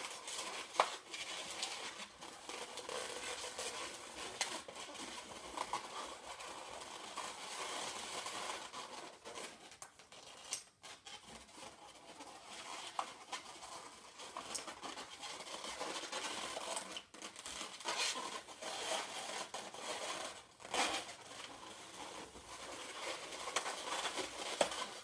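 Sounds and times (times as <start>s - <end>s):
balloons rubbing and squeaking: 0.0s - 25.0s.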